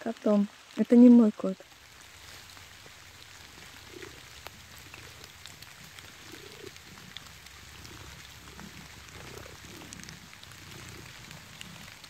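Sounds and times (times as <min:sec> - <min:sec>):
water drops pattering: 0:01.8 - 0:12.0.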